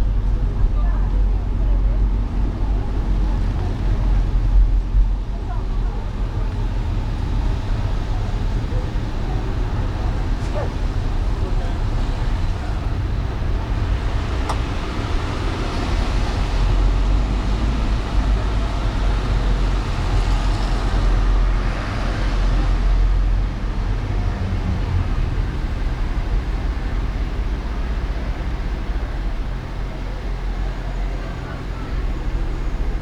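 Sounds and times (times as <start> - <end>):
road and engine rumble: 0.0 - 33.0
vehicles passing: 0.0 - 33.0
tyres hissing on wet road: 2.7 - 4.7, 5.8 - 33.0.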